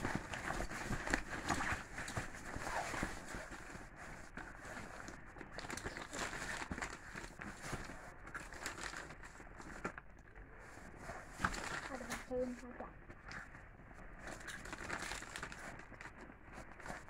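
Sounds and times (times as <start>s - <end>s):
rustling of fabric: 0.0s - 17.0s.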